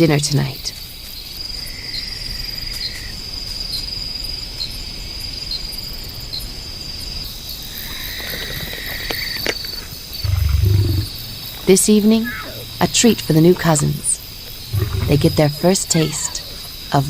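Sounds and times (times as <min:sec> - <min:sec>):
lower insect trill: 0:00.0 - 0:17.0
high-pitched insect trill: 0:00.8 - 0:17.0.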